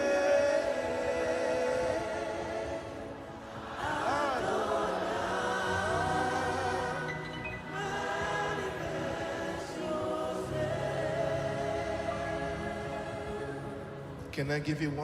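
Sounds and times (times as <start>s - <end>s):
choir singing: 0.0s - 14.4s
sustained accompaniment: 0.0s - 15.0s.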